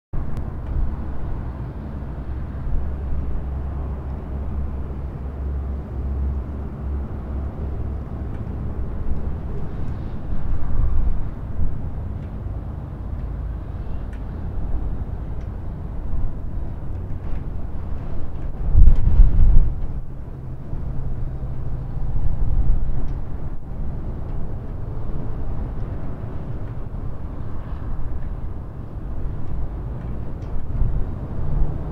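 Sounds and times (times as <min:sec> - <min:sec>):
gentle breeze blowing: 0:00.2 - 0:31.9.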